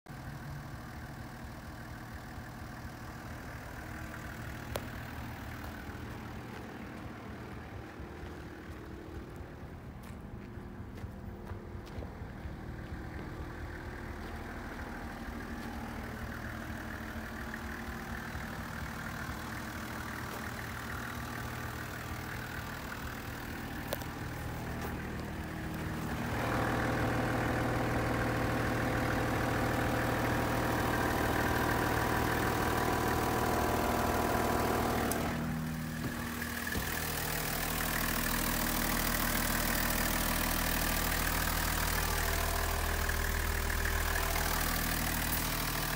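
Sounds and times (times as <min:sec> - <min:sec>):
diesel engine idling: 0:00.1 - 0:45.9.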